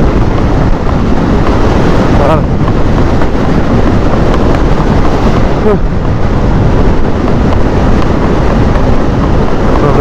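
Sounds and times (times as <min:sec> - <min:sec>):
motorbike engine: 0:00.0 - 0:10.0
road noise: 0:00.0 - 0:10.0
wind buffeting microphone: 0:00.0 - 0:10.0.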